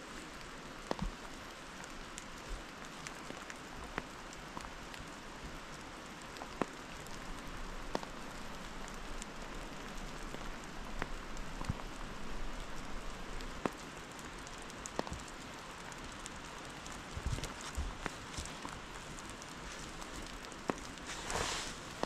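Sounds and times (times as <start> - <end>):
steady rain: 0.0 - 22.0
raindrops ticking: 0.2 - 22.0.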